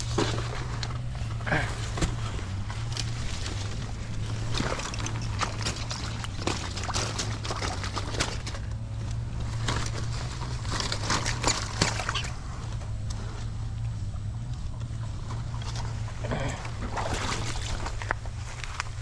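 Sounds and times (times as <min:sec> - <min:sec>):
steady low hum: 0:00.0 - 0:19.0
water sloshing and splashing: 0:00.0 - 0:19.0.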